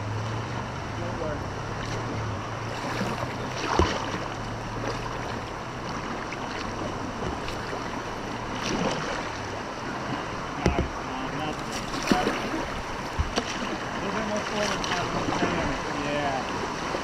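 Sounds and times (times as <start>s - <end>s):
kayak splashes and knocks: 1.6s - 17.0s
whitewater rushing: 1.8s - 17.0s.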